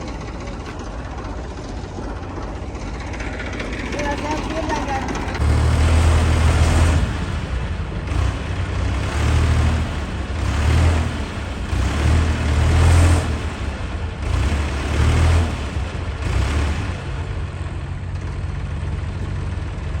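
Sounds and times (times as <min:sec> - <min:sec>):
heavy diesel engines revving: 0:00.0 - 0:20.0.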